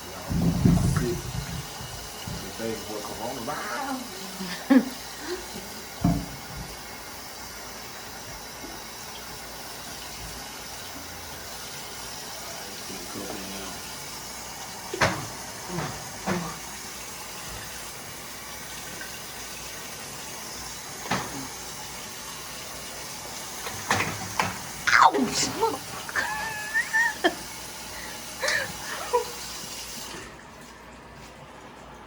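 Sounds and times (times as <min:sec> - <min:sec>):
water running from tap: 0:00.0 - 0:32.0.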